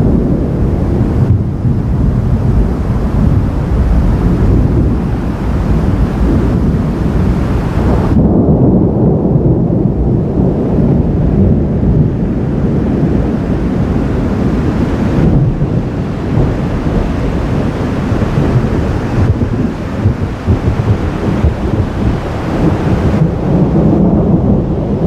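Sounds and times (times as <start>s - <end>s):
thunder rumbling: 0.0s - 25.0s.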